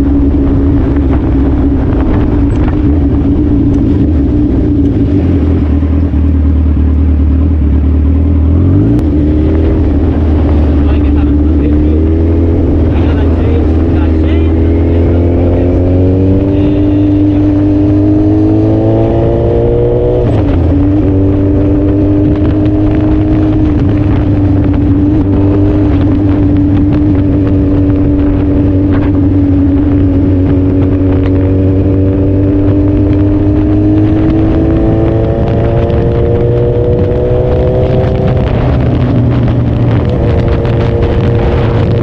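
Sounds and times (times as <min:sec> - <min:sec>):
motorcycle engine revving: 0:00.0 - 0:42.0
wind rumble on microphone: 0:00.0 - 0:42.0.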